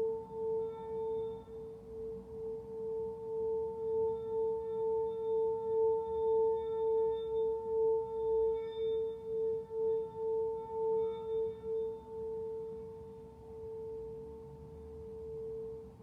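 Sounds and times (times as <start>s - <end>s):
singing bowl tone: 0.0s - 16.0s.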